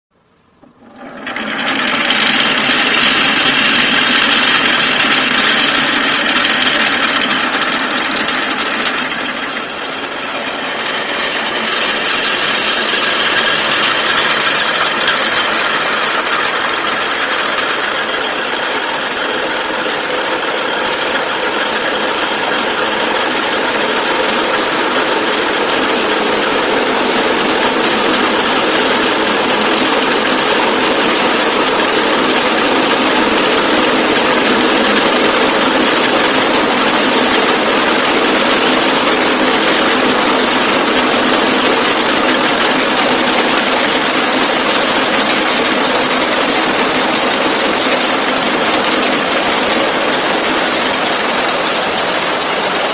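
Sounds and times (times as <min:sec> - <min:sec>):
marbles rattling down a track: 0:00.8 - 0:52.8.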